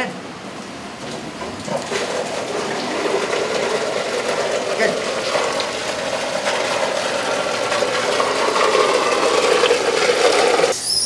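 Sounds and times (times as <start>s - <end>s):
water moving through pipes: 0.0s - 11.0s
pumps running: 1.0s - 10.8s.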